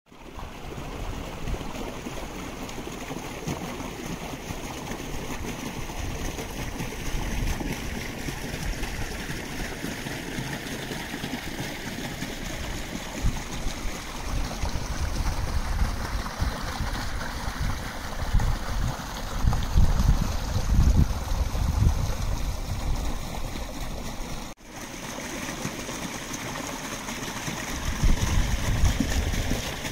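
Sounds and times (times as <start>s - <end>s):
brook babbling: 0.1s - 29.9s.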